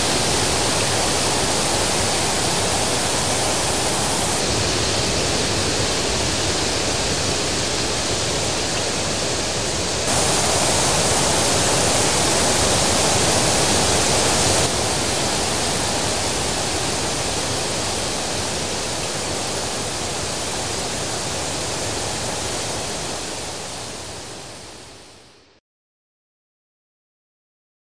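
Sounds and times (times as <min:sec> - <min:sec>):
waterfall rushing: 0:00.0 - 0:25.3.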